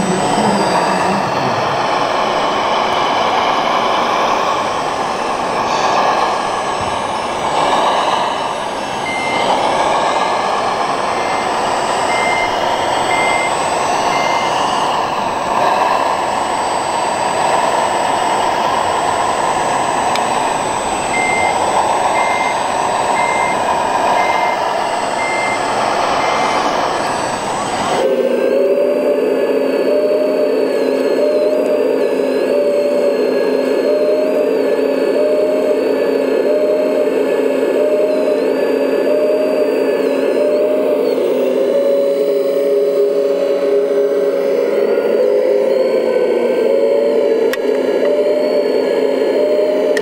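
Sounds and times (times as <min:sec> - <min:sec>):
reversing alarm beeping: 0:00.0 - 0:01.5, 0:05.1 - 0:50.0
engine-like drone: 0:00.0 - 0:50.0.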